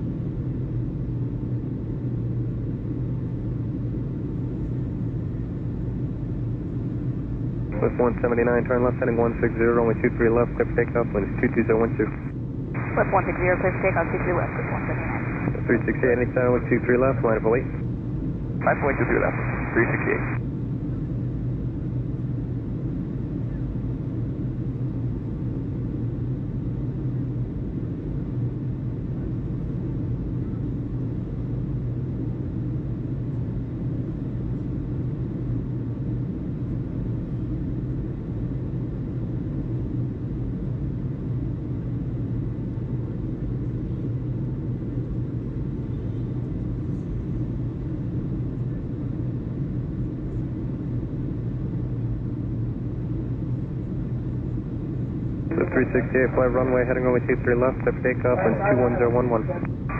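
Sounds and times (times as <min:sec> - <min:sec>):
steady low rumble: 0:01.0 - 0:30.3, 0:37.3 - 0:59.9.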